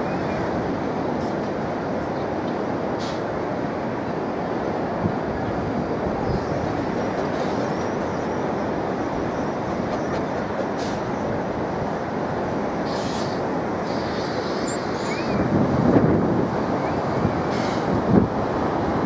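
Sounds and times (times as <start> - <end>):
distant steam train rushing: 0.0 - 19.0.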